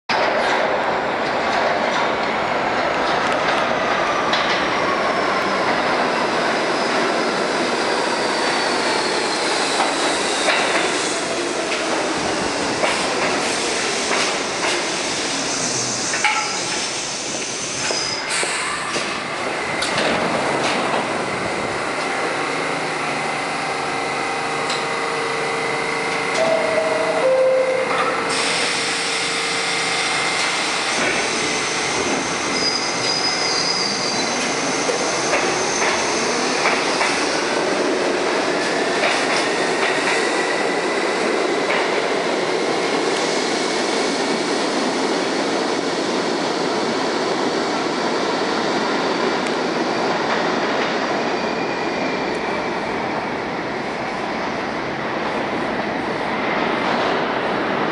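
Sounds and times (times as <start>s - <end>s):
train doors closing: 0.1s - 53.6s
train wheels on rails: 0.1s - 57.9s.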